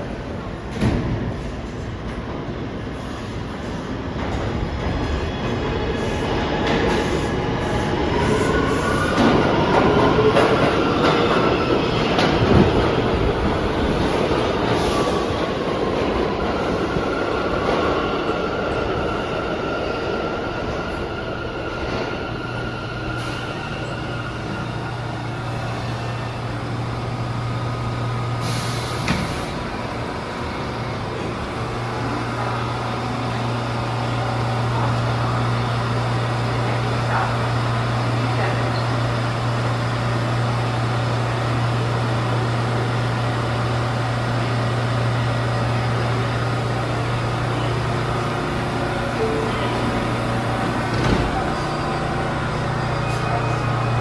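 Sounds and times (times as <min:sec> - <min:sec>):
train wheel and track rumble: 0:00.0 - 0:54.0.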